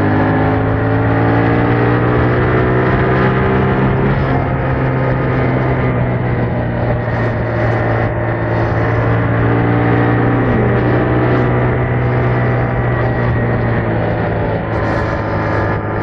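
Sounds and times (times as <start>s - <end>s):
motorcycle engine at steady revs: 0.0s - 16.0s.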